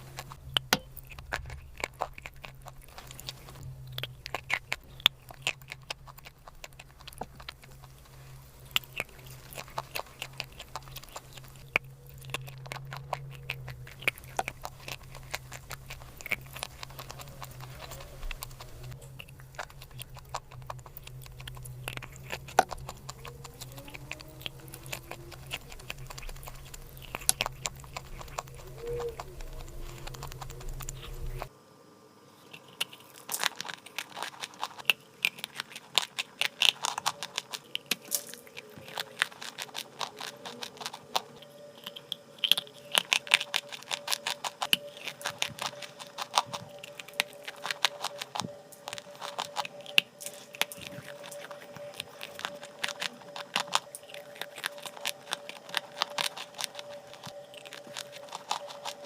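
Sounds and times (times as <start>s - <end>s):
dry clay crunching: 0.0s - 31.5s, 32.4s - 59.0s
low hum: 0.0s - 59.0s.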